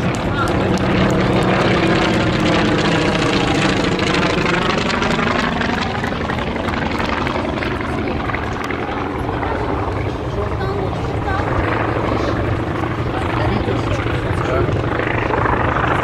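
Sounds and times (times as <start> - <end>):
propeller plane flying past: 0.0 - 16.0.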